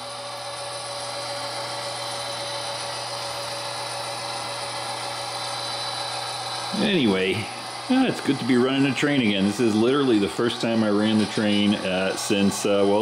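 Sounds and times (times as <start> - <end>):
model train hum and whine: 0.0 - 13.0.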